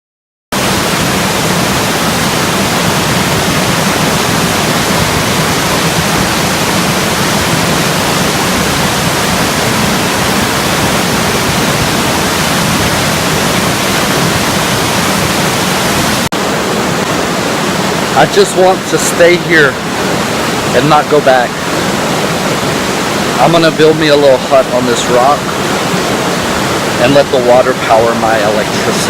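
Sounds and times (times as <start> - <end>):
waterfall rushing: 0.5 - 29.0.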